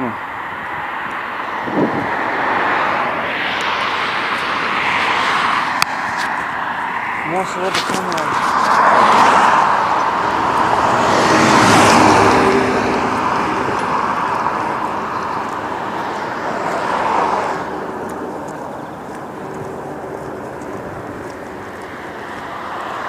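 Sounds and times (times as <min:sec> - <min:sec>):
vehicles passing close by: 0:00.0 - 0:23.0.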